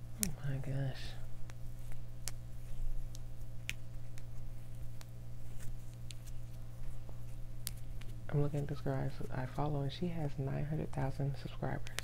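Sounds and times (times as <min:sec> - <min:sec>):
faint clicks and crackles of braiding hair: 0:00.0 - 0:12.0
steady low hum: 0:00.0 - 0:12.0.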